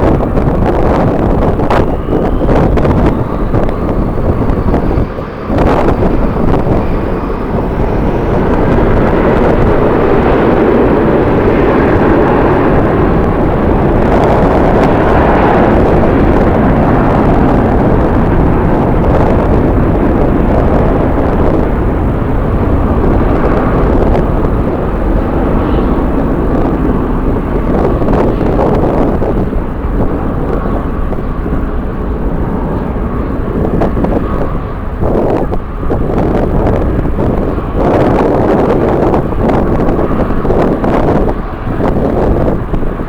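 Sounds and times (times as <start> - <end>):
jet engines running: 0.0 - 43.0
wind buffeting microphone: 0.0 - 43.0.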